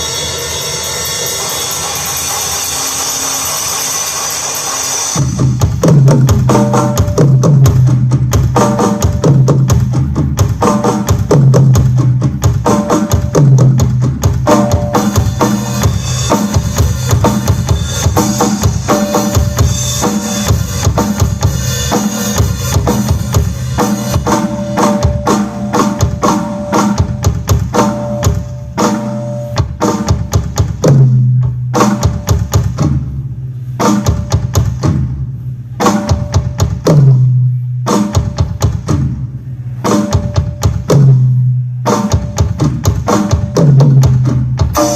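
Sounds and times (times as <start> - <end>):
drum kit playing through pa: 0.0 - 44.9.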